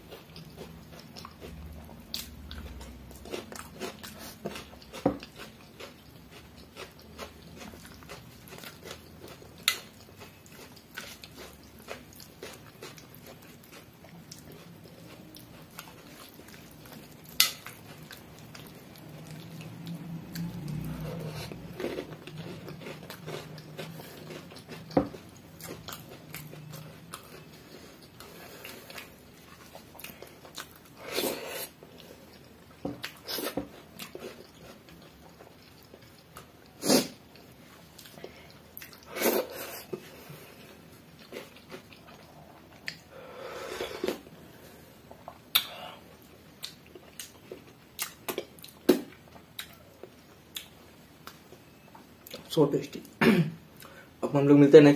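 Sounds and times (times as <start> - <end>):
person chewing food: 0.0 - 53.1, 53.7 - 54.2.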